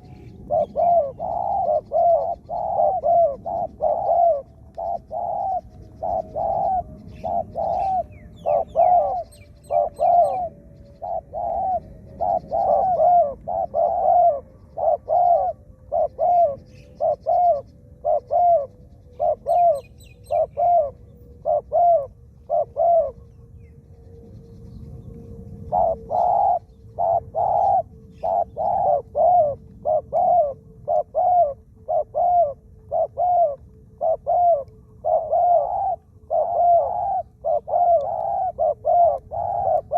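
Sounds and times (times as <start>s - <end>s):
doves cooing: 0.0s - 39.9s
small birds chirping faintly: 0.0s - 39.9s.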